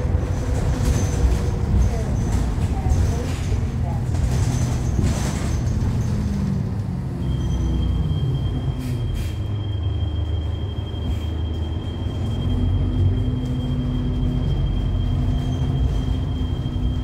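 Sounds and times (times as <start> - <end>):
bus drivetrain drone: 0.0 - 17.0.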